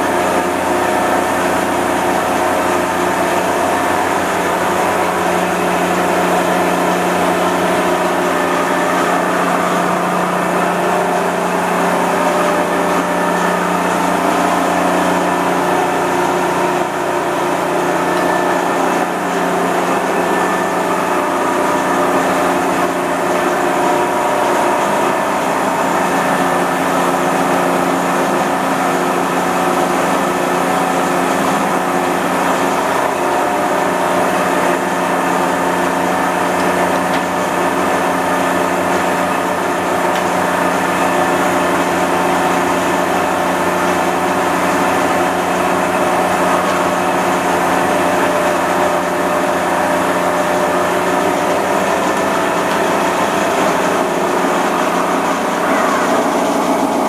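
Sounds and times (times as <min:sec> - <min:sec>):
lathe running with steady hum: 0:00.0 - 0:57.0.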